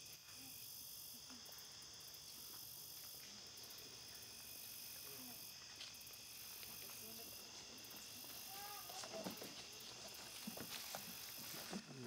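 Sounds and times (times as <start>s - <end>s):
crickets trilling: 0.0s - 12.0s
high buzzing insect call: 0.0s - 12.0s.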